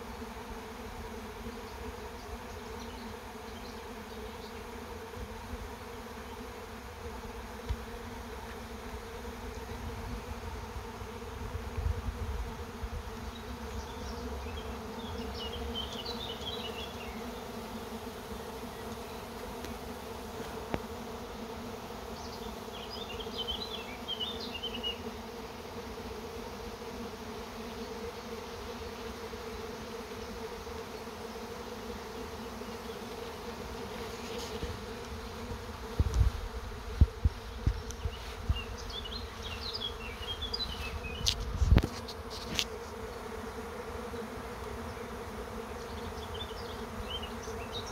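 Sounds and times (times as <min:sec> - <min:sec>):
swarming bees humming: 0:00.0 - 0:47.9.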